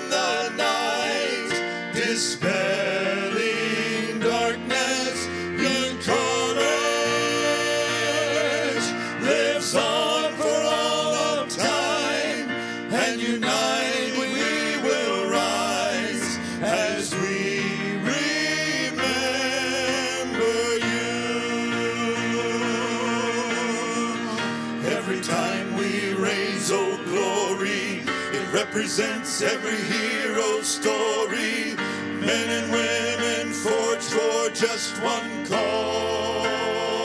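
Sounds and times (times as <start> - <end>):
piano accompaniment: 0.0 - 37.0
two men singing: 0.0 - 37.0.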